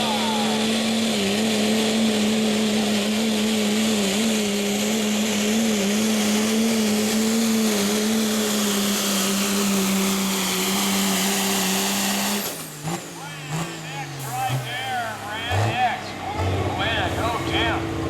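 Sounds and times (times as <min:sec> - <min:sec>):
diesel truck engine at high revs: 0:00.0 - 0:18.0.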